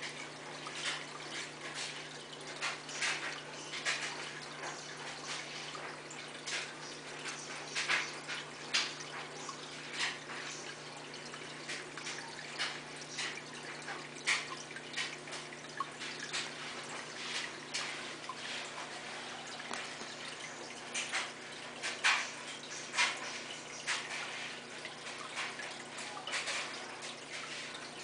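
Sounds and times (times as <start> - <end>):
aquarium filter water splashing: 0.0 - 28.0.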